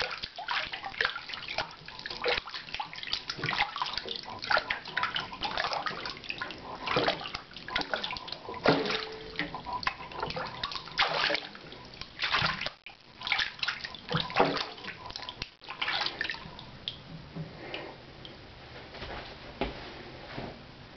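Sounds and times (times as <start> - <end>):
water splashing in a metal sink: 0.0 - 17.8.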